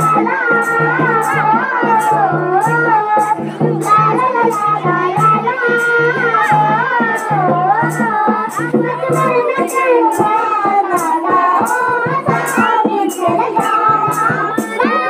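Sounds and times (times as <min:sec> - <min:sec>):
girls singing through pa: 0:00.0 - 0:15.0
sharp percussive beat: 0:00.0 - 0:15.0.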